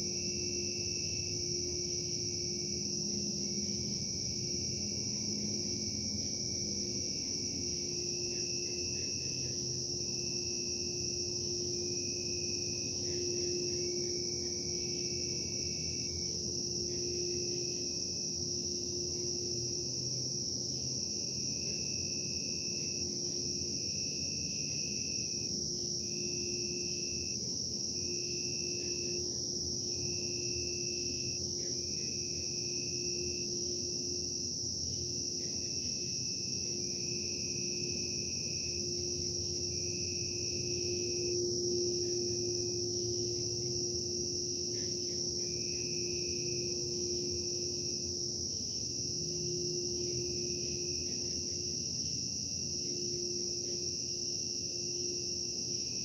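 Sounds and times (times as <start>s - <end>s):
broken insect trill: 0.0s - 56.0s
continuous high insect trill: 0.0s - 56.0s
low machine hum: 0.0s - 56.0s.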